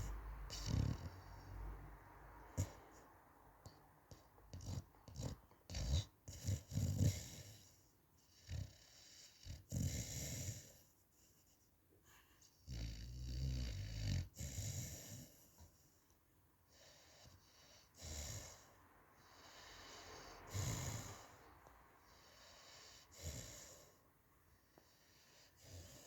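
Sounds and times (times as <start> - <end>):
dog snoring: 0.0 - 1.8, 2.4 - 10.9, 12.6 - 15.8, 16.7 - 24.0, 24.8 - 26.0
dog breathing: 0.0 - 12.5, 16.7 - 26.0.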